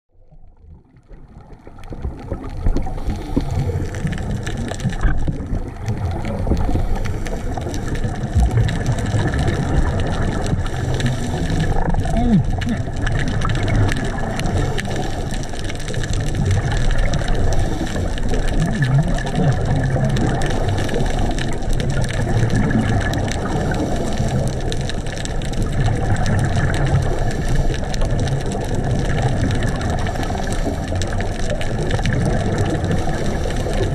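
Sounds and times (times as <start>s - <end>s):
fine reef crackling: 0.1s - 33.9s
low underwater rumble: 0.1s - 33.9s.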